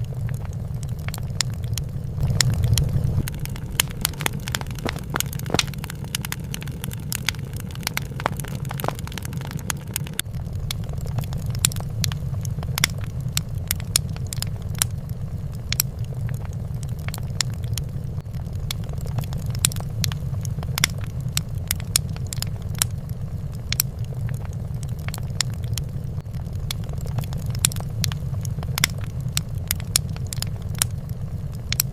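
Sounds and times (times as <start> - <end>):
fire crackling and popping: 0.0 - 31.9
low fire rumble: 0.0 - 31.9.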